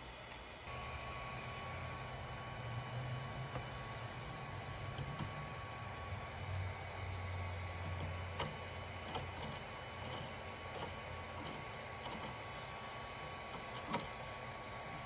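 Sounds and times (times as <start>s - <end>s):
steady hum with high whine: 0.0s - 15.0s.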